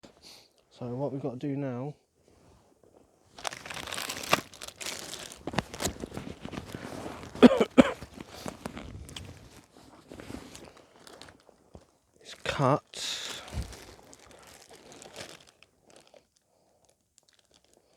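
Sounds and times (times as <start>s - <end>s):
rustling and crunching handling: 2.2s - 17.9s.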